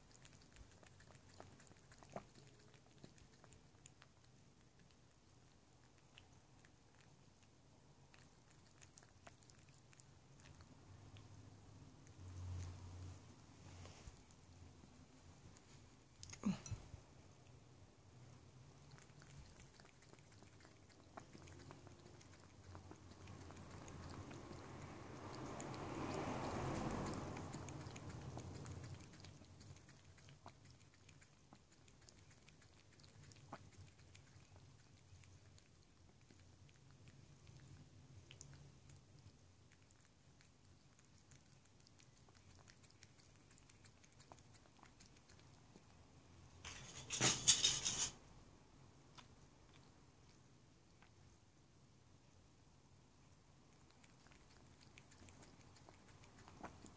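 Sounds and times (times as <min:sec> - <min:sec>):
cat lapping food: 0:00.0 - 0:48.2, 0:48.8 - 0:56.9.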